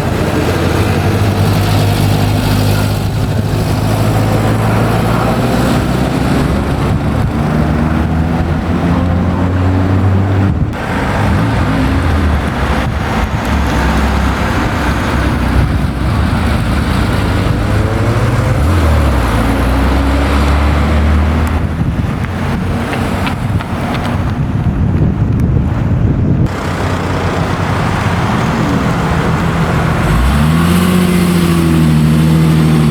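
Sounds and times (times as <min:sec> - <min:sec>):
car engines revving: 0:00.0 - 0:32.9.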